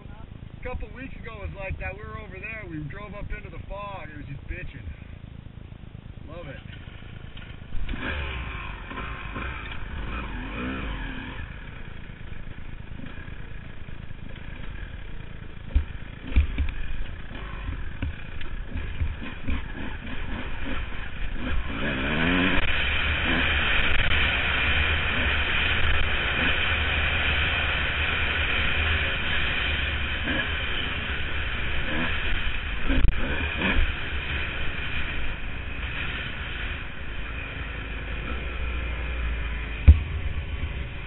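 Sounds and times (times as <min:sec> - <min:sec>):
dirt bike engine revving: 0:06.6 - 0:41.0.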